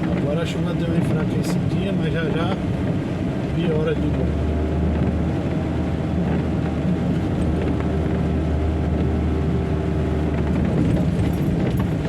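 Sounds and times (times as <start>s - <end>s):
rain: 0.0s - 12.0s.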